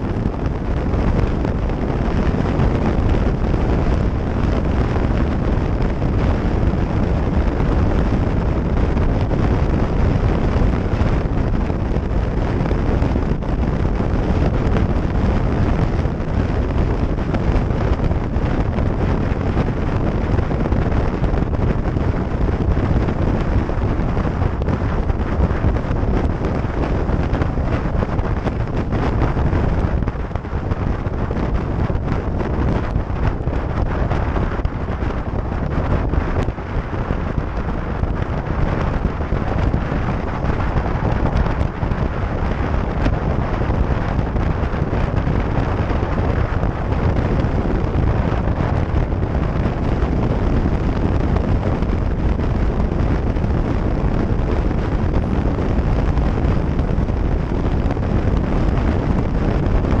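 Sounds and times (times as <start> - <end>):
motorcycle engine and tyres rumbling: 0.0 - 60.0
wind buffeting microphone: 0.0 - 60.0.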